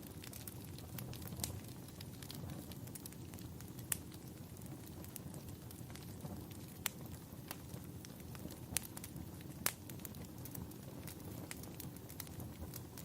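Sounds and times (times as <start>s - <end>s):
burning wood popping and crackling: 0.0s - 13.0s
wood fire rumbling: 0.0s - 13.0s.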